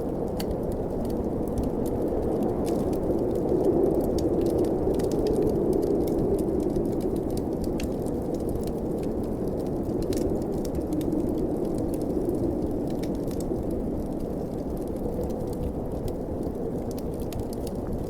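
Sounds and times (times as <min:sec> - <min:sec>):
blizzard wind blowing: 0:00.0 - 0:18.0
wood fire crackling: 0:00.0 - 0:18.0.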